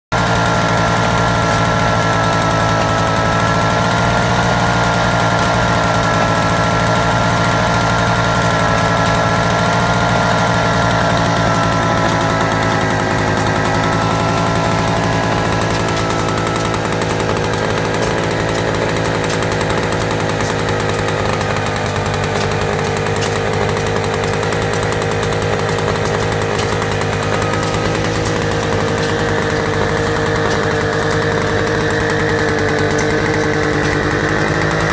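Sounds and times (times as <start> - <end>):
two-stroke stationary engine running: 0.0 - 34.9.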